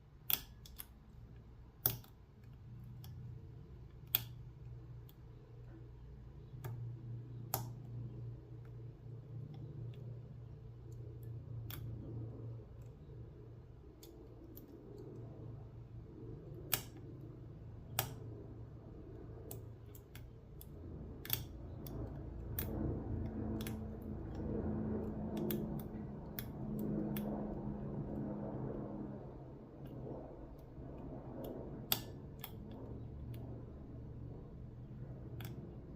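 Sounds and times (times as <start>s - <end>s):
low steady hum: 0.0s - 35.9s.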